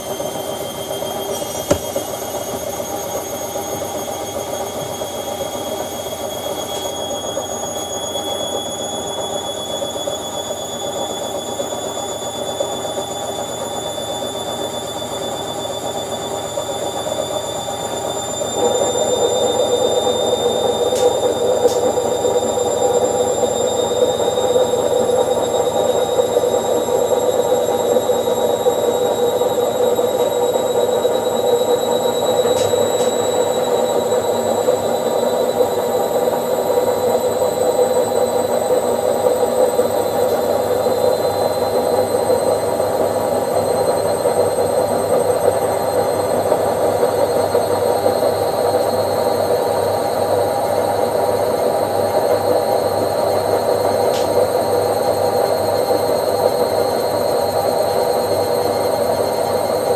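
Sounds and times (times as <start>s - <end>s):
high motor whine: 0.0s - 59.9s
washing machine running: 0.0s - 59.9s.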